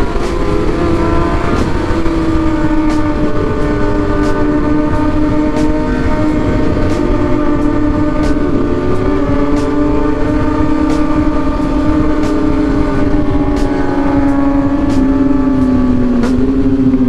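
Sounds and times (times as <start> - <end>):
motorcycle engine cruising: 0.0 - 17.0
wind rumble on microphone: 0.0 - 17.0.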